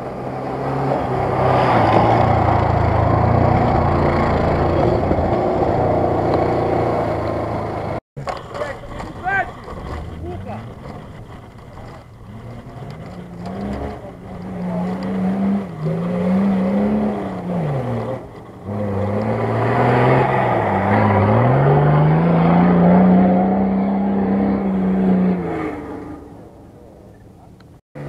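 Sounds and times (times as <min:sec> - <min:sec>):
off-road engine revving hard: 0:00.0 - 0:08.0, 0:09.1 - 0:26.6.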